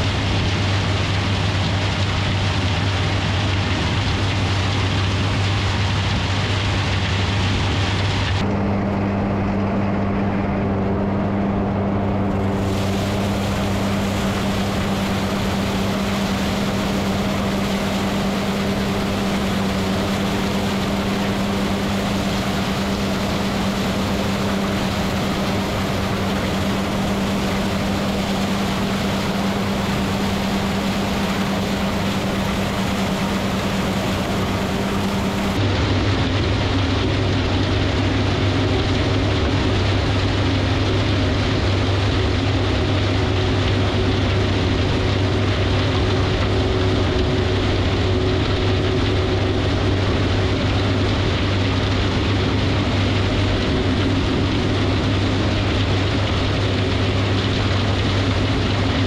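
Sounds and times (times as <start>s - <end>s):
flail chopper mechanical drone: 7.6s - 59.0s.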